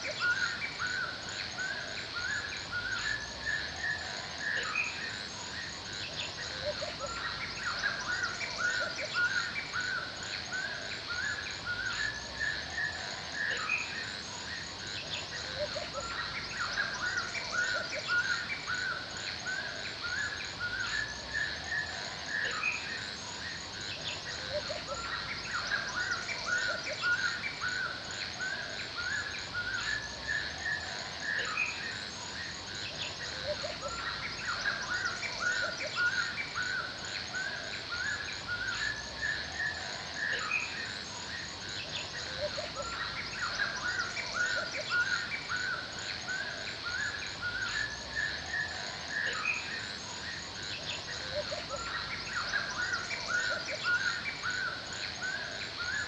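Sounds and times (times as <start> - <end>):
high insect drone: 0.0 - 56.0
small birds chirping: 0.0 - 56.0.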